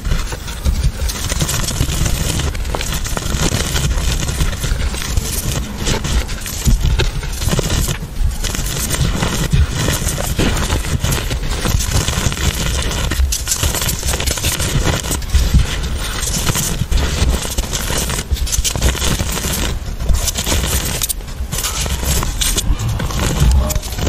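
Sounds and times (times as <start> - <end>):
chalk crunching: 0.0 - 24.0.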